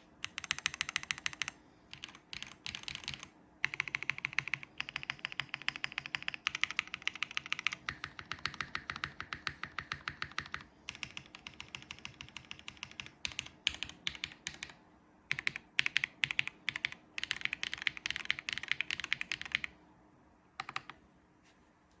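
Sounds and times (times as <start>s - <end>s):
fast mechanical keyboard typing: 0.2s - 14.7s, 15.3s - 19.7s, 20.6s - 20.9s.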